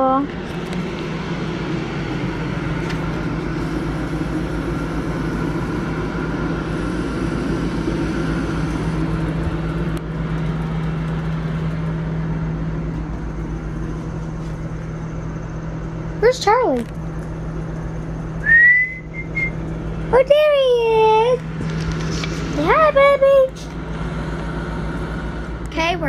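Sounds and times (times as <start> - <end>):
motor humming: 0.0 - 26.0.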